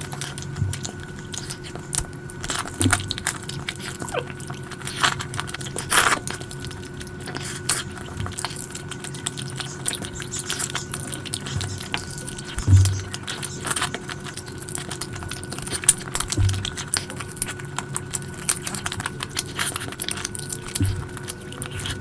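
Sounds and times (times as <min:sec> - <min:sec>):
chewing with wet mouth clicks: 0:00.0 - 0:22.0
faint steady hum: 0:00.0 - 0:22.0.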